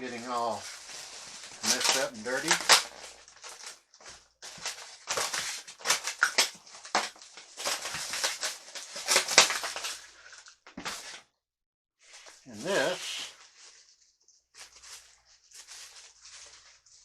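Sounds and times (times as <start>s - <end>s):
packaging rustling and crinkling: 0.0s - 11.2s, 12.1s - 17.0s.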